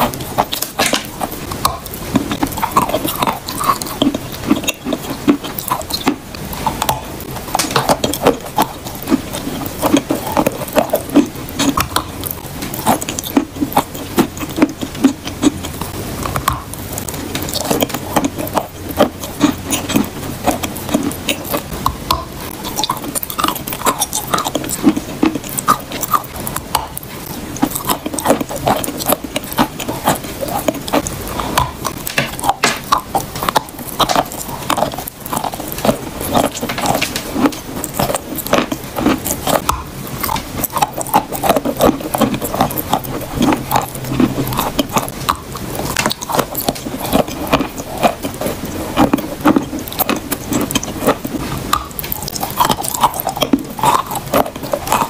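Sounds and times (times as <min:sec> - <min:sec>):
chewing crunchy chalk: 0:00.0 - 0:55.0.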